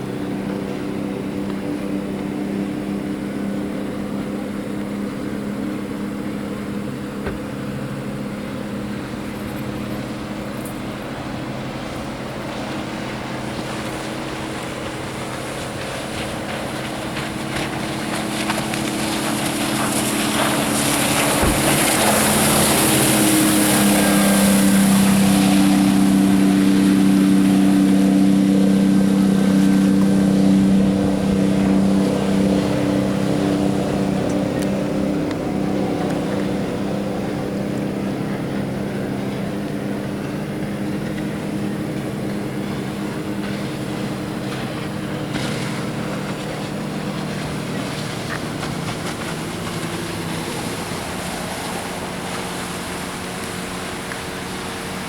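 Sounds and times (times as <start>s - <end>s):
motorboat engine running: 0.0s - 55.0s
water and wind rushing: 0.0s - 55.0s.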